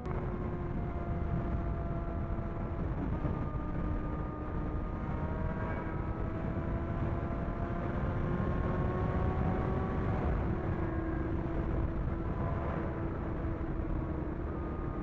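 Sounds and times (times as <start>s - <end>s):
road and wind noise: 0.0s - 15.0s
motorcycle engine accelerating: 0.4s - 15.0s.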